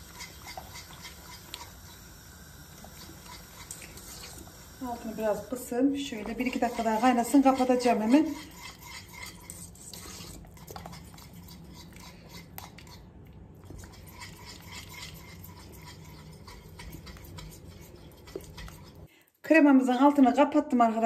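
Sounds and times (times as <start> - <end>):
whisk scraping metal pot: 0.0 - 2.1, 2.8 - 19.1.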